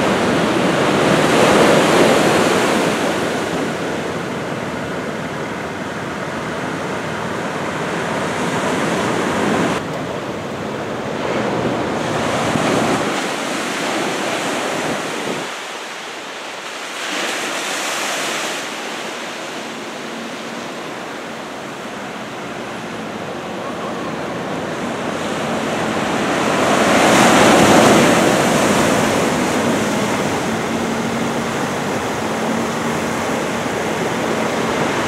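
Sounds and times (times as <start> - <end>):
heavy ocean surf breaking: 0.0 - 35.0
wind noise on microphone: 0.0 - 35.0.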